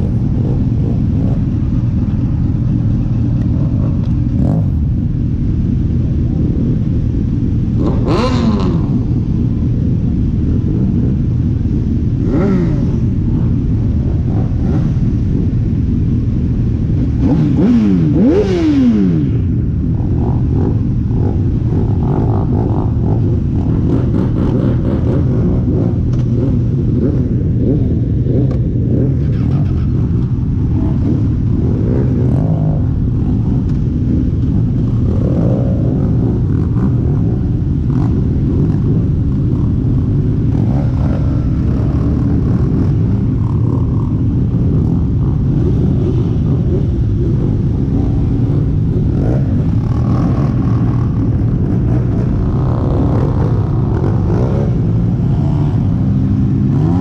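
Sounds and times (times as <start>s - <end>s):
motorcycle engines rumbling: 0.0s - 57.0s
motorcycles revving: 0.0s - 57.0s.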